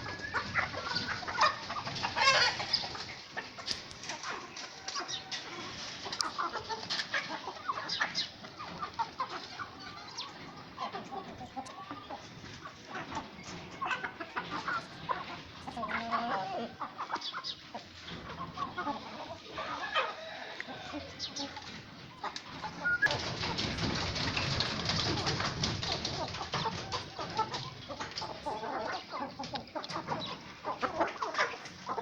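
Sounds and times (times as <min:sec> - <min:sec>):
hens and roosters clucking: 0:00.0 - 0:32.0.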